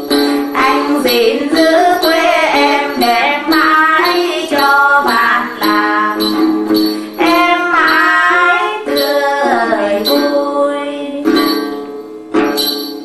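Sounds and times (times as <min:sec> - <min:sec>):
plucked lute: 0:00.0 - 0:13.0
women singing: 0:00.5 - 0:11.4.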